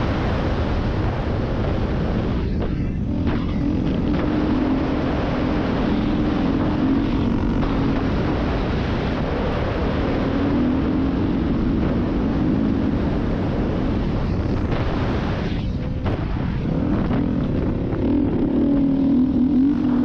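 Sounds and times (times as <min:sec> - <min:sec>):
off-road vehicle engine running: 0:00.0 - 0:20.0
wind rushing on microphone: 0:00.0 - 0:20.0.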